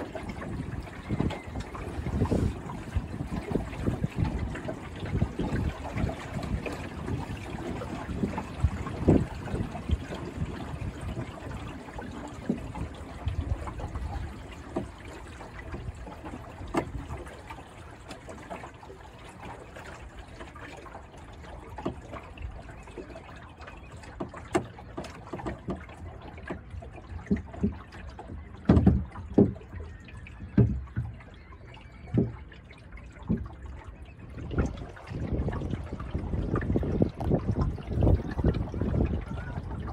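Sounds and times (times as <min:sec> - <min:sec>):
small waves slapping a boat hull: 0:00.0 - 0:39.9
water gurgling along hull: 0:00.0 - 0:39.9.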